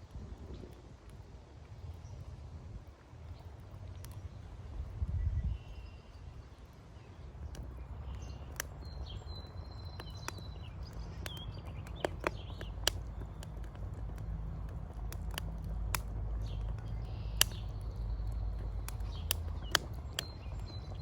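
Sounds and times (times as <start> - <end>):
wood fire rumbling and crackling: 0.0 - 21.0.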